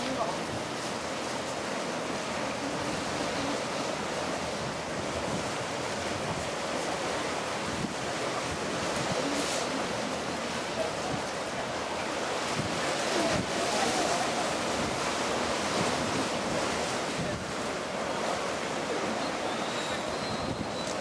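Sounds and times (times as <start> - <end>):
water lapping against pier: 0.0 - 21.0
wind buffeting microphone: 2.6 - 21.0.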